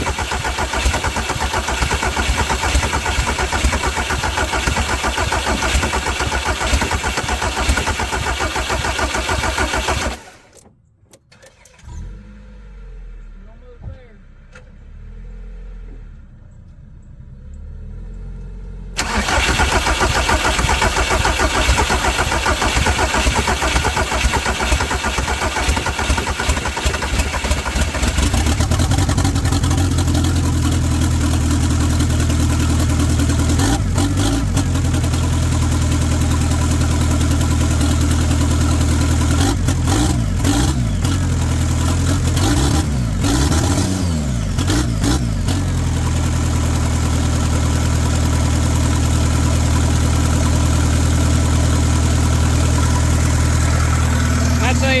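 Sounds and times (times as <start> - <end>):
diesel engine running and revving: 0.0 - 10.5, 14.2 - 55.0
diesel engine starter cranking: 0.0 - 12.4, 19.0 - 49.0, 49.6 - 55.0.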